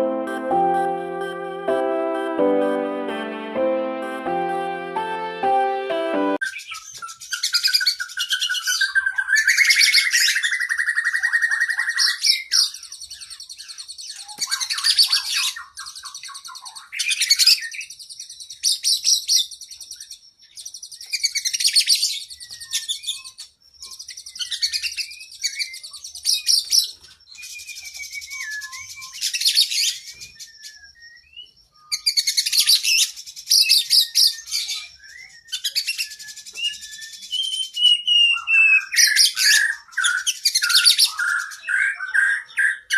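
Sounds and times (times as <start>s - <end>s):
bird singing whistles and trills: 6.4s - 42.9s.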